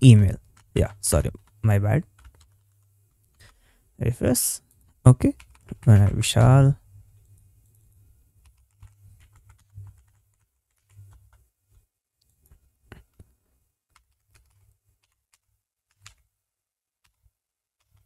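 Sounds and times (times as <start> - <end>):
faint keyboard typing: 0.0 - 16.4, 17.0 - 18.0.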